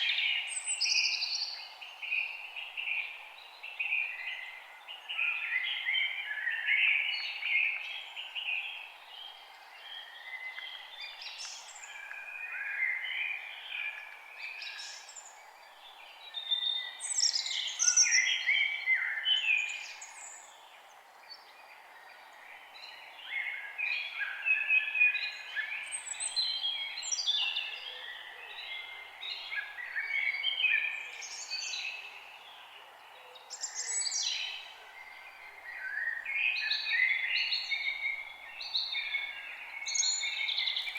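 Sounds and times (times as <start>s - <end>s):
faint steady hiss: 0.0s - 40.9s
songbirds singing and chirping: 0.0s - 40.9s.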